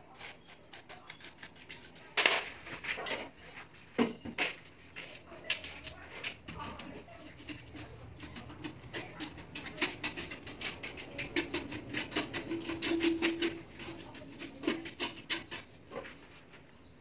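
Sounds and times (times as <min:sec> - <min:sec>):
trowel scraping mortar: 0:00.0 - 0:03.4, 0:05.0 - 0:16.4.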